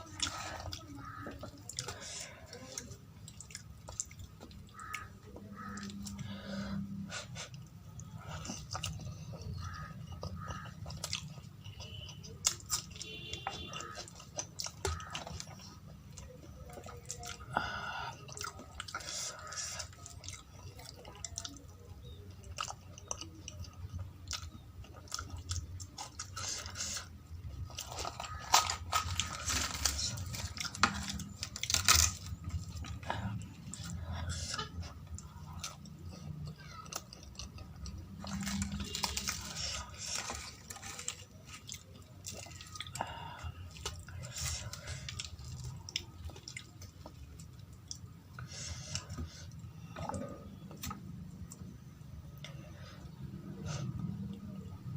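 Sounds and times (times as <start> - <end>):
person chewing and lip smacking: 0.0 - 54.9.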